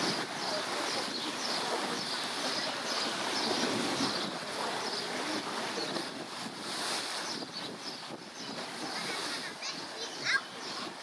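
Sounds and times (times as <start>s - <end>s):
small waves washing on shore: 0.0s - 11.0s
wind: 0.0s - 11.0s.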